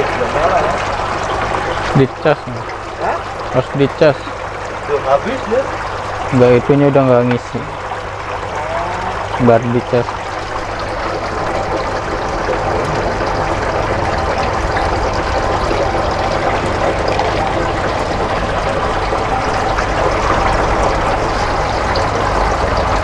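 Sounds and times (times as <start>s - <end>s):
low steady hum: 0.0s - 23.0s
water bubbling in a tank: 0.0s - 23.0s.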